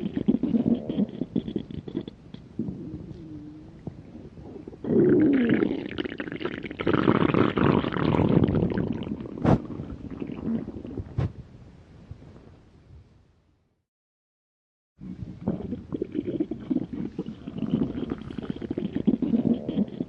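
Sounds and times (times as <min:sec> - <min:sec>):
stomach growling: 0:00.0 - 0:11.4, 0:15.0 - 0:20.0.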